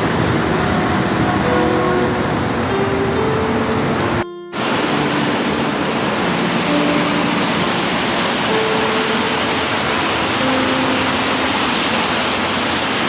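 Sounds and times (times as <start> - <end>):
soft slow held music notes: 0.0 - 12.8
dense rain hiss: 0.0 - 13.0.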